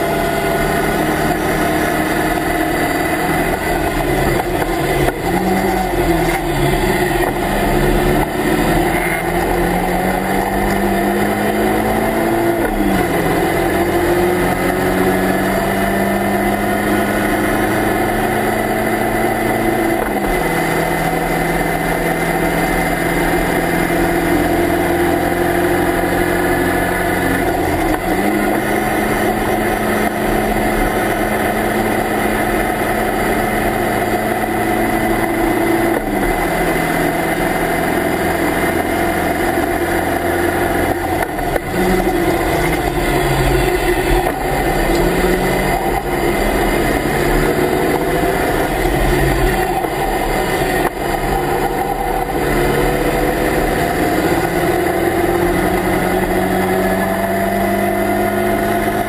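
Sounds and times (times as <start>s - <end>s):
race car engine at full throttle: 0.0s - 59.0s
wind and road noise: 0.0s - 59.0s.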